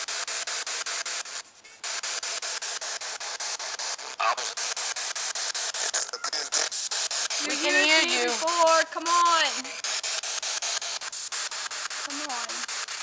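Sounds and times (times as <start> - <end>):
pulsing radio static hiss: 0.0 - 13.0.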